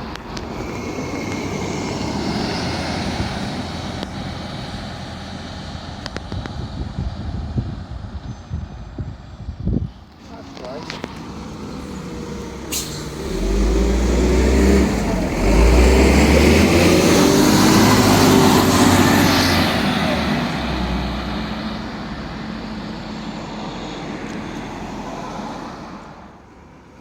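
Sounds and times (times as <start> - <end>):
bus engine pulling away: 0.0 - 27.0.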